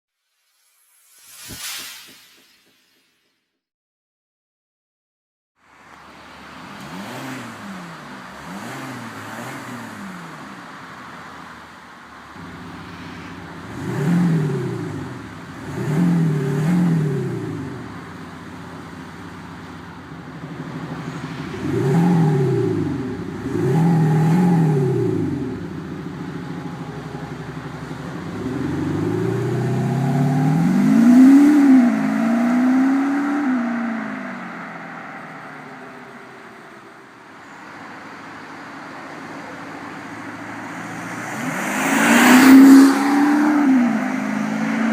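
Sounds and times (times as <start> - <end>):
car engine revving: 5.9 - 44.9.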